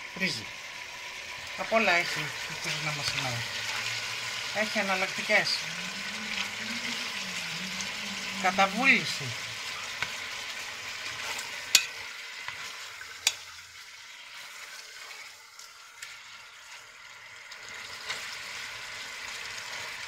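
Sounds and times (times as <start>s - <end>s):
meat sizzling in a pot: 0.0s - 20.0s.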